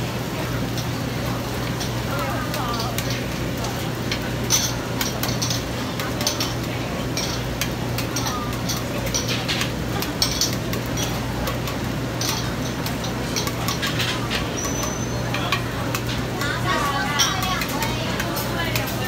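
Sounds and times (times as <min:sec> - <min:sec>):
metal spatula on iron griddle: 0:01.6 - 0:19.0.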